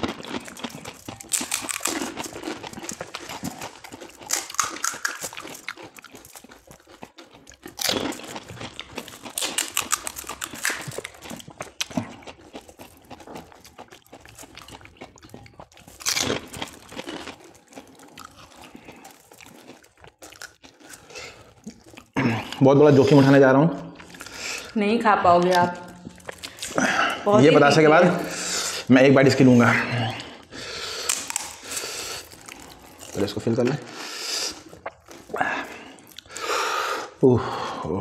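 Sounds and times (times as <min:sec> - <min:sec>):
crisp food crunching: 0:00.0 - 0:22.6, 0:23.2 - 0:29.4, 0:30.1 - 0:36.4.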